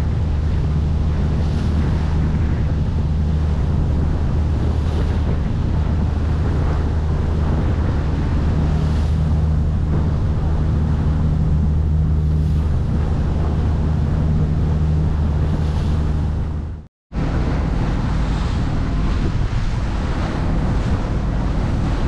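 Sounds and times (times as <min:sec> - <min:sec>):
boat engine humming: 0:00.0 - 0:22.0
water washing alongside: 0:00.0 - 0:22.0
wind buffeting microphone: 0:00.0 - 0:22.0.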